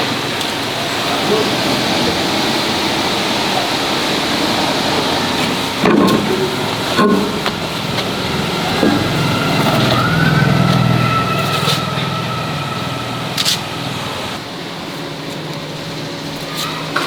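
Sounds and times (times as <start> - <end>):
motor humming and whining: 0.0 - 17.0.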